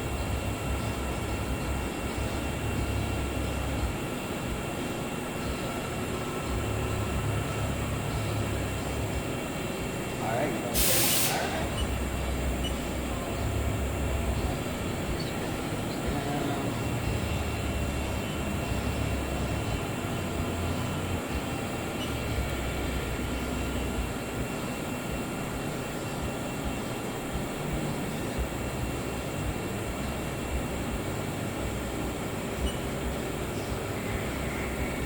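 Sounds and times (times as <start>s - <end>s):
faint steady tones: 0.0s - 35.0s
machine hum and hiss: 0.0s - 35.0s.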